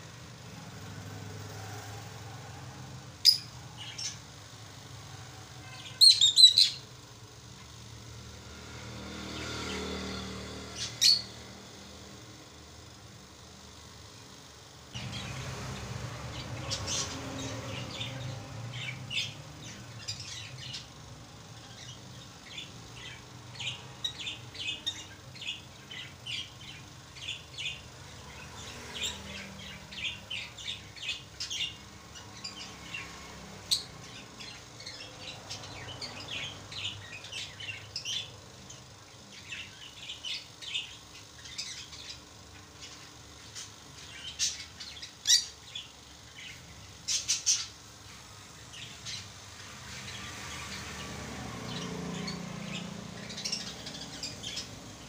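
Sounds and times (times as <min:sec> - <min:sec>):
lovebirds chirping: 0:00.0 - 0:06.9, 0:09.4 - 0:11.8, 0:14.9 - 0:55.0.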